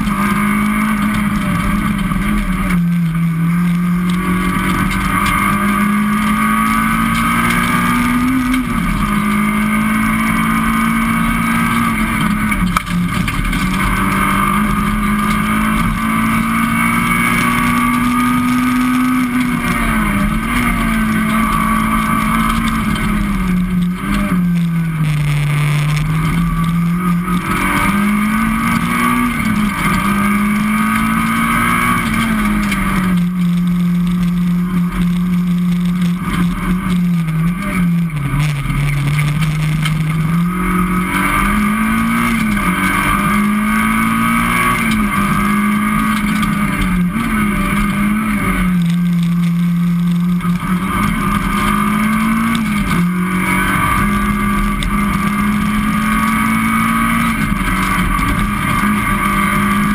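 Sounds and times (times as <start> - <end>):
rally car engine at high revs: 0.0 - 59.9.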